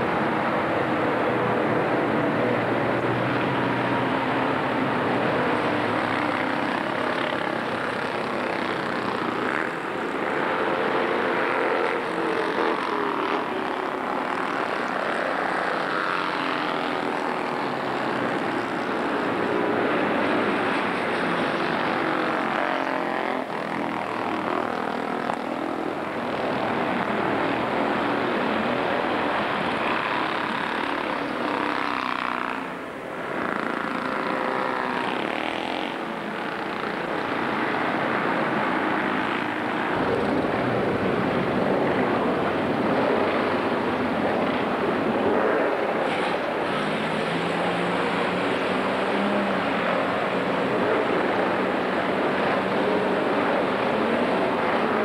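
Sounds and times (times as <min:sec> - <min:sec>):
motorcycle passing: 0:00.0 - 0:55.0
racing car engines passing: 0:00.0 - 0:55.0.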